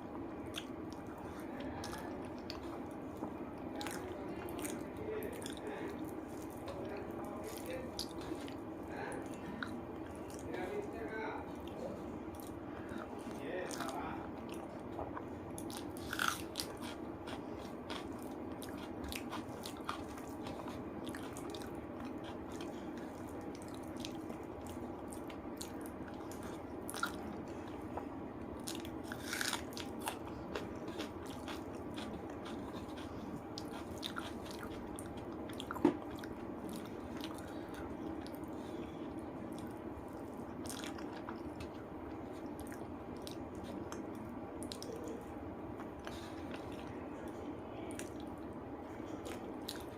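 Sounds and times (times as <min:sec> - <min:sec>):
chewing food: 0:00.0 - 0:49.9.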